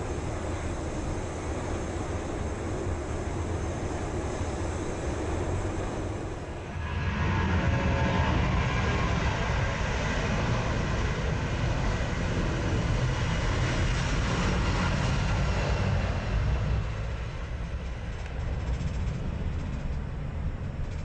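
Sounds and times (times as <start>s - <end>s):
jet engines rushing rumble: 0.0s - 21.0s.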